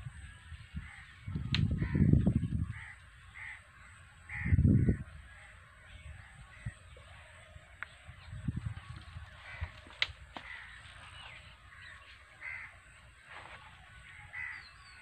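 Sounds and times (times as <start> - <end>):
crows cawing: 0.8 - 6.9, 9.1 - 15.0.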